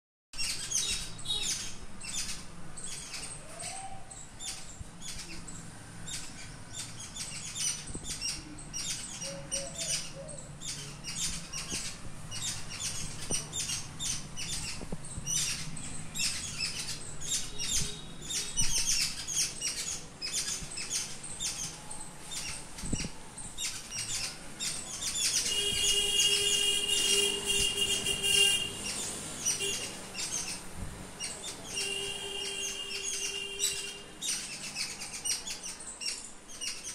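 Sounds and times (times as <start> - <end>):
small birds chirping: 0.4 - 36.9.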